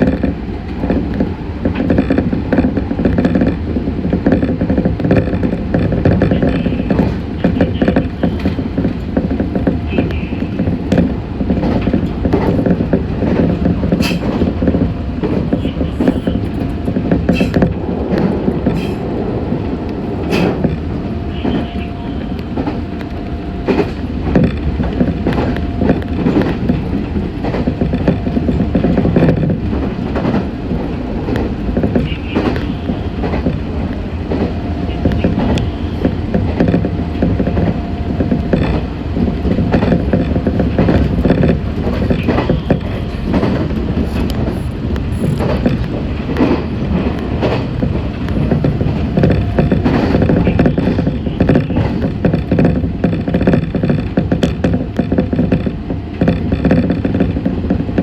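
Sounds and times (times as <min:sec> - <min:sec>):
faint train whine: 0:00.0 - 0:58.0
train wheels rumbling on rails: 0:00.0 - 0:58.0.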